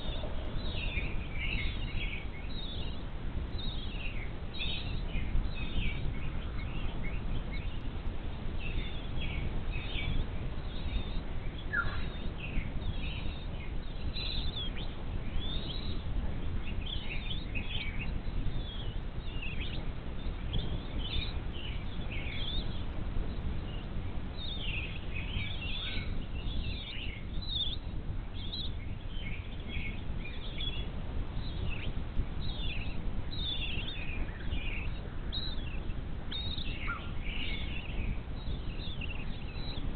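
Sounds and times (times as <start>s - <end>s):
birds chirping and whistling: 0.0s - 39.9s
steady low rumble: 0.0s - 39.9s.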